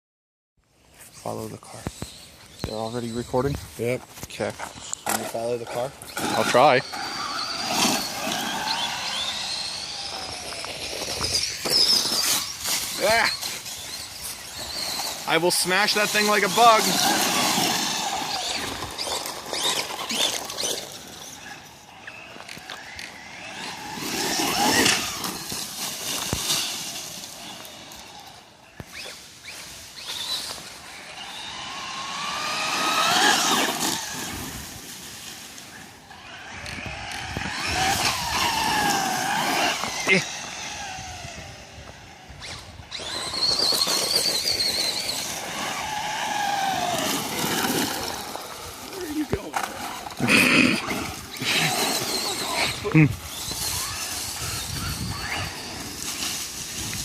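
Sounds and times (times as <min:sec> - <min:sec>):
electric motors whining: 0:01.3 - 0:57.0
tyre noise on ground: 0:01.7 - 0:57.0.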